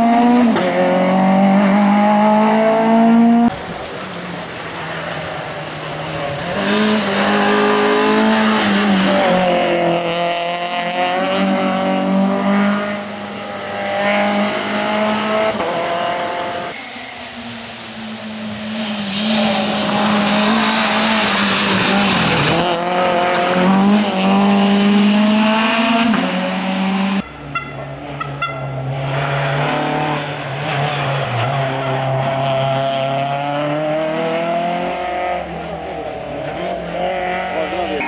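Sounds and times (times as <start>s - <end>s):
rally car engine revving: 0.0s - 16.8s, 18.1s - 27.2s, 27.9s - 38.0s.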